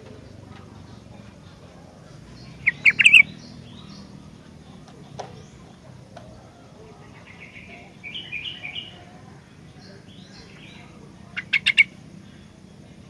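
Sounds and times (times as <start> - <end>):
bird chirping song: 0.0 - 13.0.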